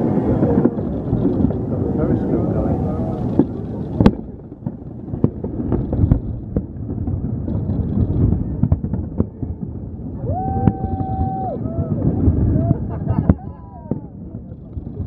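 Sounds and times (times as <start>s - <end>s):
fireworks bangs and booms: 0.0s - 15.0s
low rumble: 0.0s - 15.0s.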